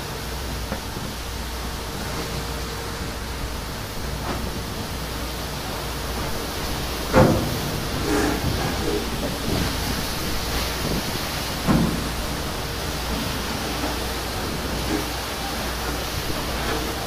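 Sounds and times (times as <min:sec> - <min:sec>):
low engine drone: 0:00.0 - 0:17.0
rushing noise: 0:00.0 - 0:17.0.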